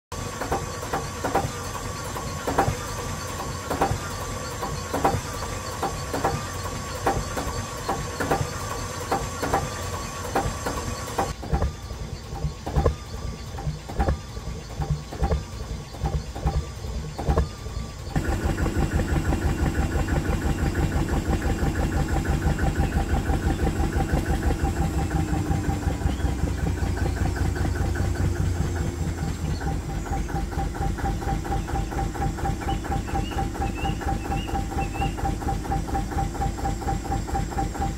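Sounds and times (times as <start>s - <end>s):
diesel engine running: 0.0s - 37.9s
slow metallic engine clanks: 0.1s - 37.9s.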